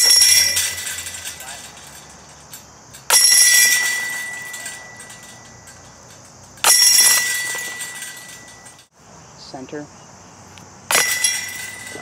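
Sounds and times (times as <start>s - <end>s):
chains jangling and ringing: 0.0s - 8.9s, 10.9s - 12.0s
disc hitting basket chains: 0.0s - 8.9s, 10.9s - 12.0s.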